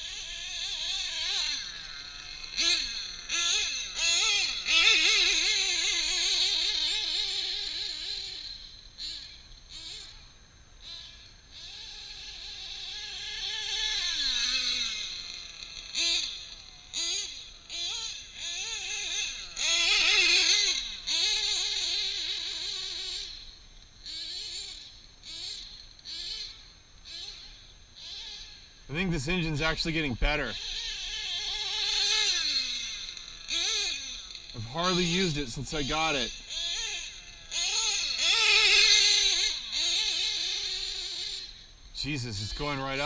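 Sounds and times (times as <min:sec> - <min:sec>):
model engine high whine: 0:00.0 - 0:43.0.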